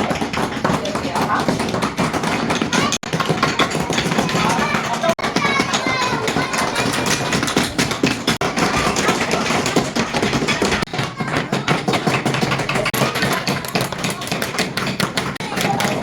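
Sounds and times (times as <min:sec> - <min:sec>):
hammers tapping nails into wood: 0:00.0 - 0:16.0.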